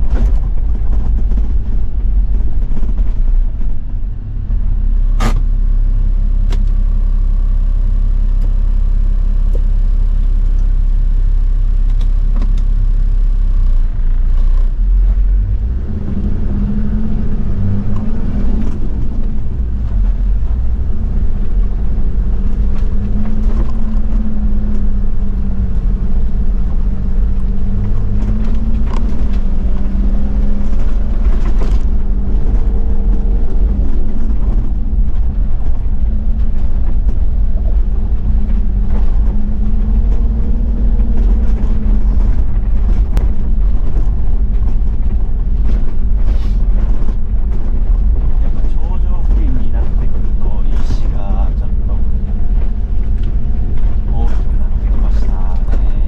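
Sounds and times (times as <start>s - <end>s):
tyres rumbling on gravel: 0.0s - 6.0s, 12.5s - 56.0s
diesel engine driving: 0.0s - 56.0s.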